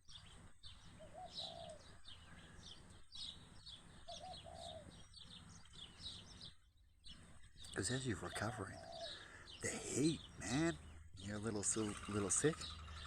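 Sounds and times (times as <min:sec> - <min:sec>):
lower bird call: 0:00.0 - 0:13.0
sparrows chirping: 0:00.0 - 0:13.0.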